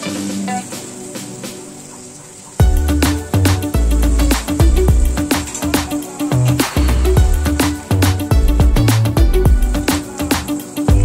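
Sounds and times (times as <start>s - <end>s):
electronic music with deep bass: 0.0s - 11.0s.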